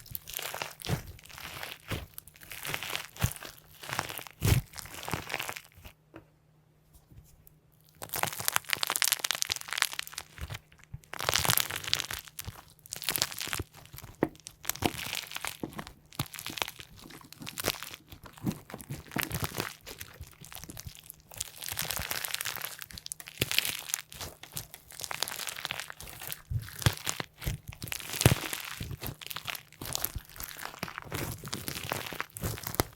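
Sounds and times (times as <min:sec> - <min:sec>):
slime crunching and crackling: 0:00.0 - 0:06.0, 0:07.8 - 0:32.9.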